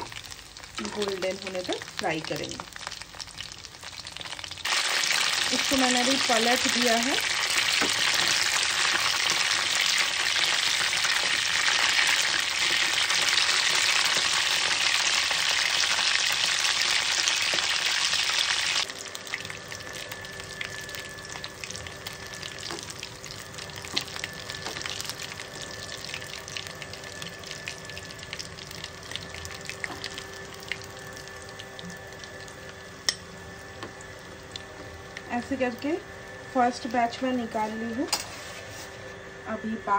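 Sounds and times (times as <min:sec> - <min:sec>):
deep-frying sizzle: 0:00.0 - 0:39.0.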